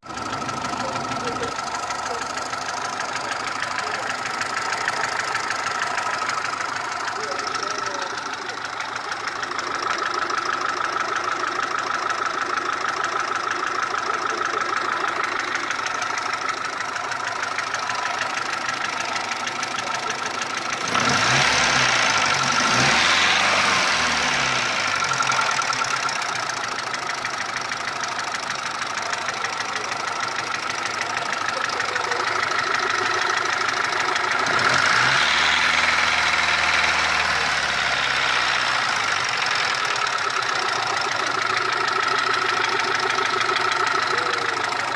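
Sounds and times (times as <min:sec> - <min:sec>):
car engine running abnormally: 0:00.0 - 0:44.9.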